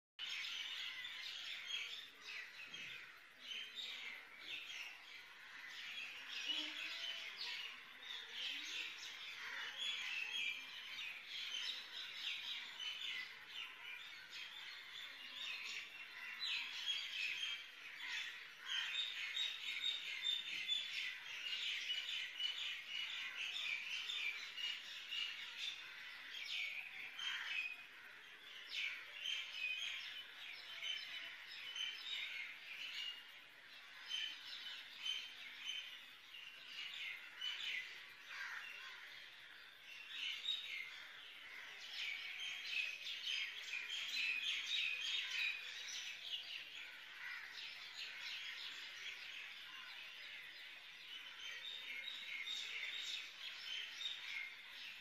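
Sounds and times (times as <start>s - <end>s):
small birds chirping: 0.2s - 55.0s.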